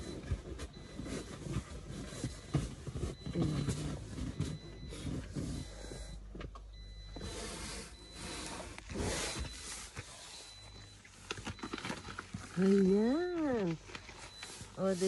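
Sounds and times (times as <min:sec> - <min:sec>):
rustling handling noises: 0:00.0 - 0:15.0.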